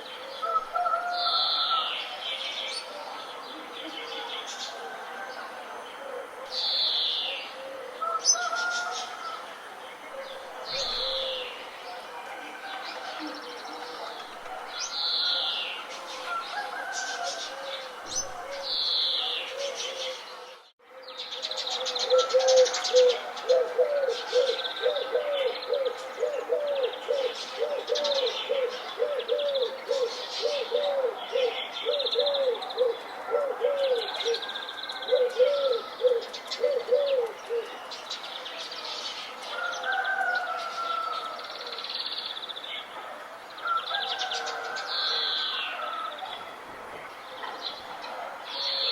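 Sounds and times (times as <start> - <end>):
birds chirping and trilling: 0.0 - 48.9.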